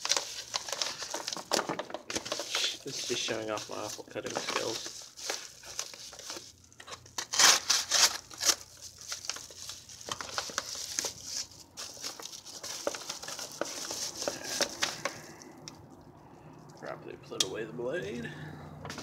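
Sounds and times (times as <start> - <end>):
packaging crinkling and tearing: 0.0 - 15.9.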